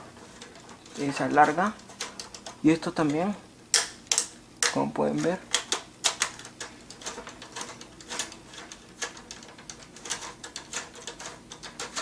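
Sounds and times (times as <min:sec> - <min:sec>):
toy ladder controls clicking: 0:00.2 - 0:12.0.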